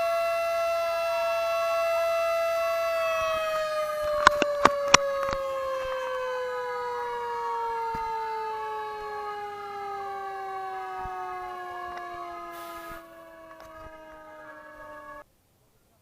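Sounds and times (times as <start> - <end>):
mechanical siren winding down: 0.0 - 15.2
second siren wailing: 0.0 - 15.2.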